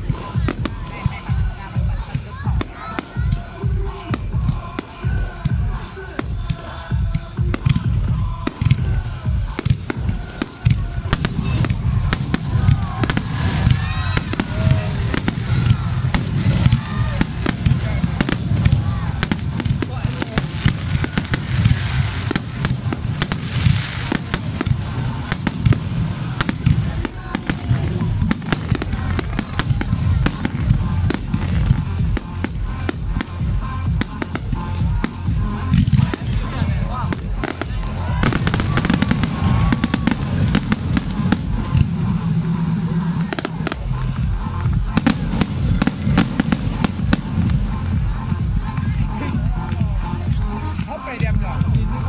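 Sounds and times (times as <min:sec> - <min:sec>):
fireworks bangs and booms: 0:00.0 - 0:52.0
fireworks crackling: 0:00.0 - 0:52.0
low rumble: 0:03.6 - 0:52.0.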